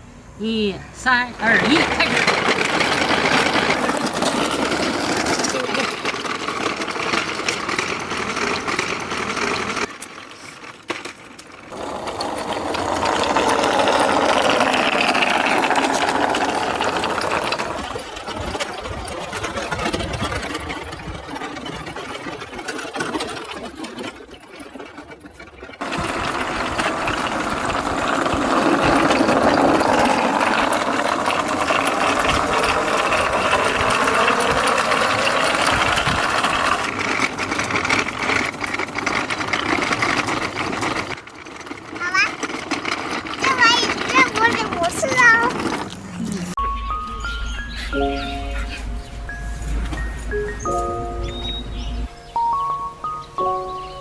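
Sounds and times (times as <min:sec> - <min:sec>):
small machine rattling: 0:01.1 - 0:54.0.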